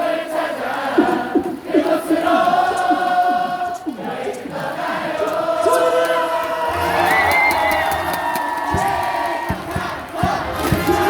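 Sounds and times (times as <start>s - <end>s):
crowd singing a cheer song: 0.0s - 11.0s.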